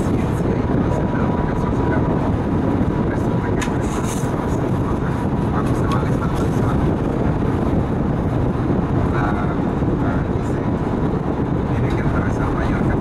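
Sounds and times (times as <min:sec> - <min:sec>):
bus cruising interior drone: 0:00.0 - 0:13.0.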